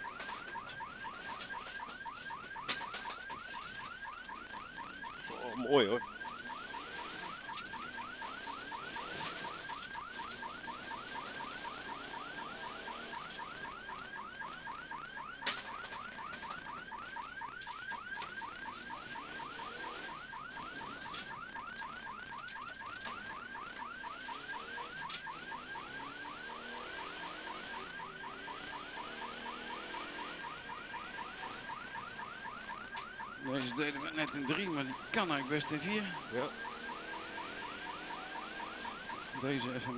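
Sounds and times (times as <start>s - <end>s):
car engine: 0.0s - 39.9s
electronic yelp siren: 0.0s - 39.9s.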